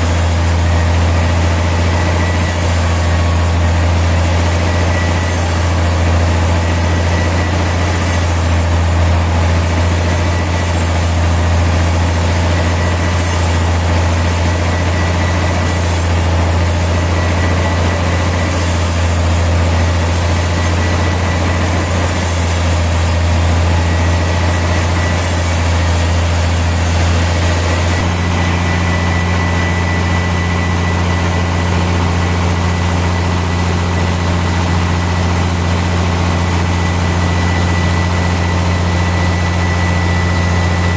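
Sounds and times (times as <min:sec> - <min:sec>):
sawmill machinery humming: 0:00.0 - 0:40.9
thin high whine: 0:00.0 - 0:40.9.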